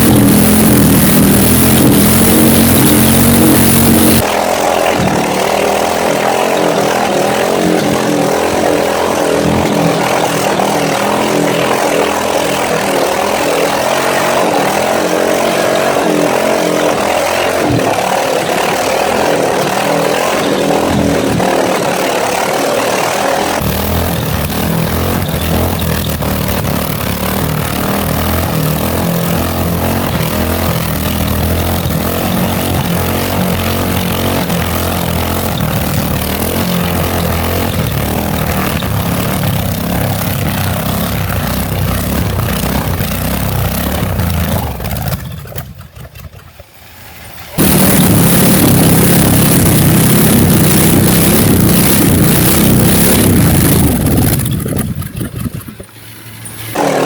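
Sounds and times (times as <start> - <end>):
loud bright engine-like noise: 0.0 - 45.7, 46.6 - 57.0
car engine running at high revs: 0.0 - 57.0.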